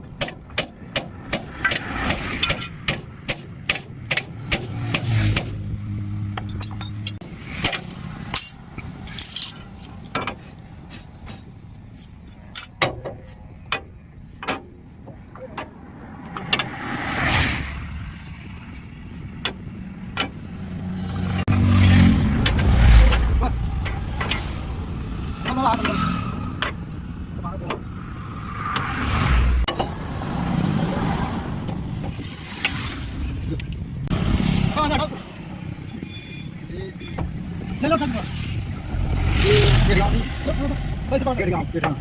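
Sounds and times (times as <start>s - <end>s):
vehicle engine rumbling: 0.0s - 42.0s.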